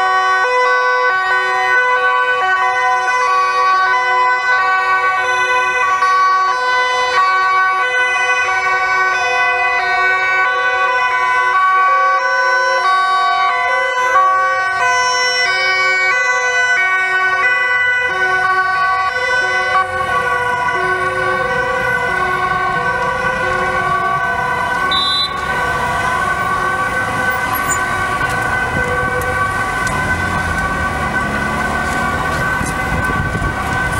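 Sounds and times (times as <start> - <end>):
two-tone sirens: 0.0 - 33.9
vehicle engine and traffic noise: 0.0 - 33.9.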